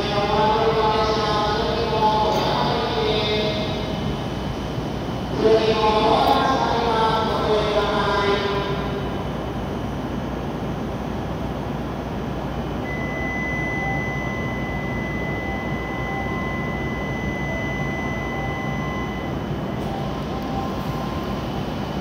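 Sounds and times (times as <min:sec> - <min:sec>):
steady high whine: 0:00.0 - 0:22.0
train equipment hum: 0:00.0 - 0:22.0.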